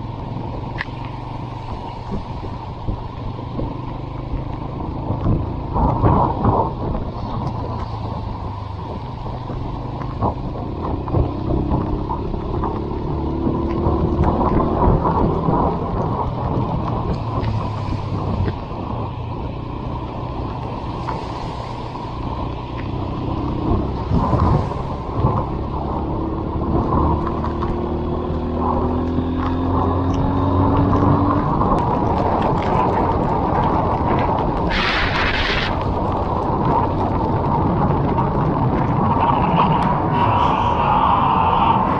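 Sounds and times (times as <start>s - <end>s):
motorcycle engine running: 0.0s - 41.9s
wind and road noise: 0.0s - 41.9s.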